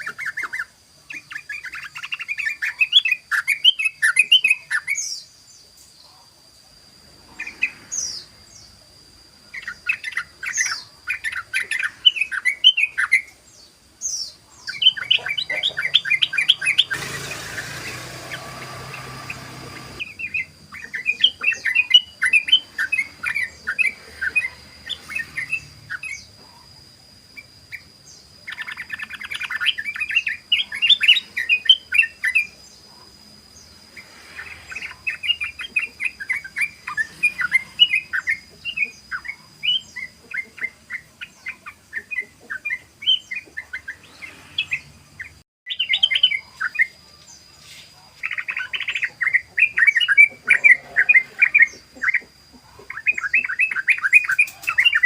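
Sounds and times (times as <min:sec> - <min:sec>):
bird chattering song: 0:00.0 - 0:06.3, 0:07.2 - 0:08.8, 0:09.4 - 0:55.0.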